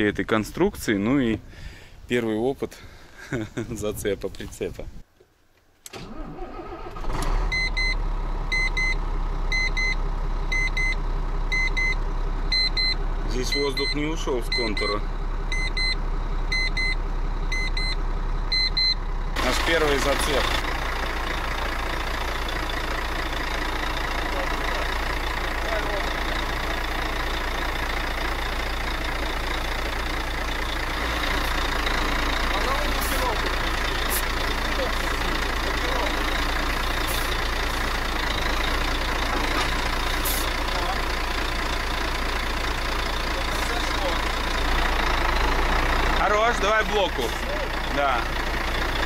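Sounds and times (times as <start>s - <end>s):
truck diesel engine running: 6.0s - 49.0s.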